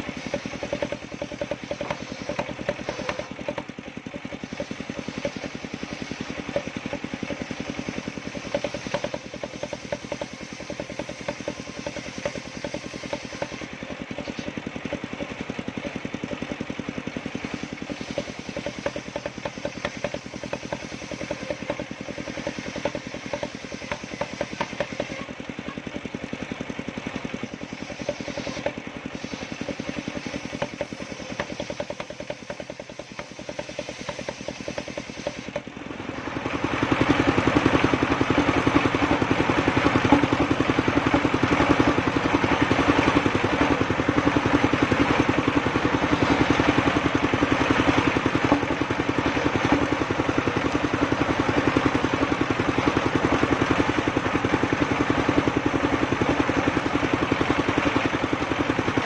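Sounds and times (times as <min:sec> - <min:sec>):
sawmill engine chugging: 0:00.0 - 0:59.0.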